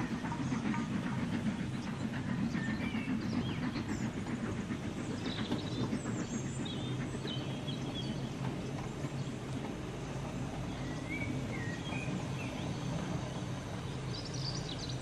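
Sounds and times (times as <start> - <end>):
birds chirping: 0.0 - 15.0
train rumbling on track: 0.0 - 15.0.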